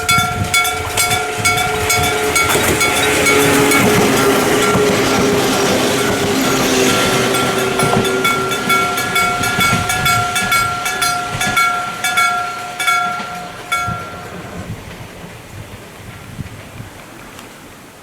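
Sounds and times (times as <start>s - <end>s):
electric level crossing bell: 0.0s - 14.8s
train passing rush: 0.0s - 18.0s.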